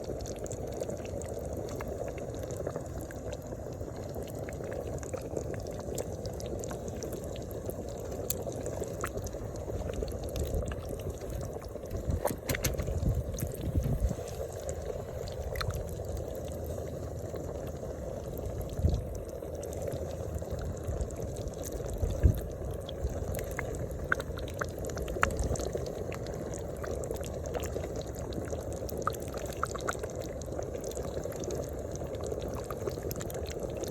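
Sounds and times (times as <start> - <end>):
liquid bubbling in a pan: 0.0 - 33.9.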